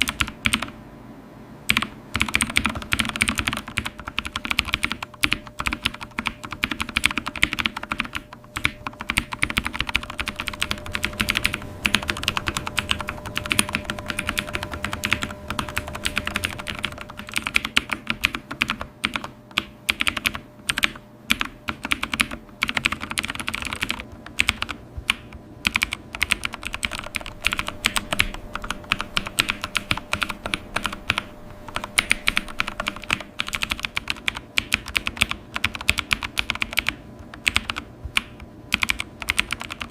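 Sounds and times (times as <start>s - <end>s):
keyboard typing: 0.0s - 0.8s, 1.7s - 39.9s.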